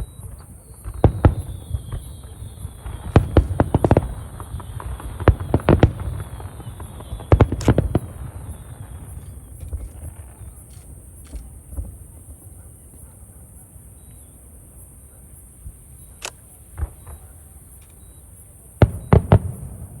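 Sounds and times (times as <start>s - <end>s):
fireworks bangs: 0.0s - 13.5s, 16.6s - 17.8s, 18.6s - 20.0s.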